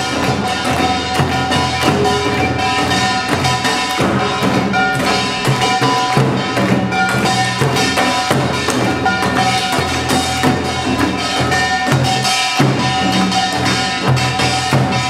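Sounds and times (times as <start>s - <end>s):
drums beating a driving rhythm: 0.0s - 15.0s
small gong ringing and clanging: 0.0s - 15.0s.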